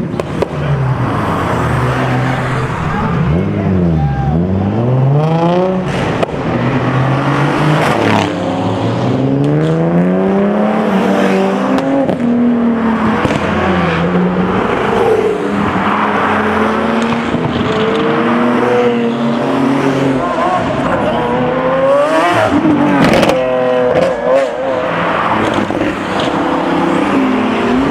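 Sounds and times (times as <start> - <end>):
car engines revving: 0.0 - 27.9.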